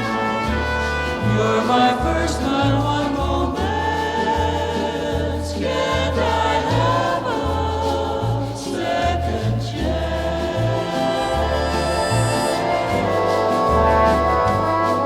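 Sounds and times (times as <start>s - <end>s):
choir-like voices holding notes: 0.0s - 15.0s
repeating bass line: 0.0s - 15.0s.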